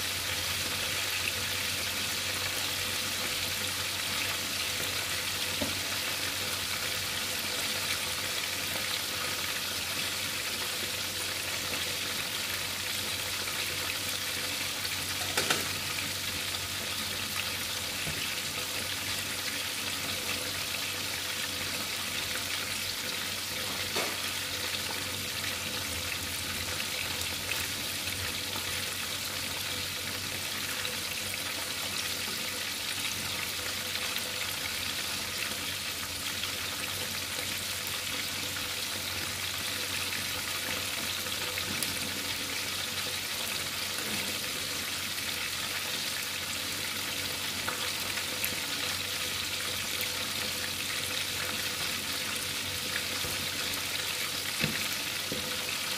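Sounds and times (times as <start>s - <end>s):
oil sizzling with fish frying: 0.0s - 55.9s.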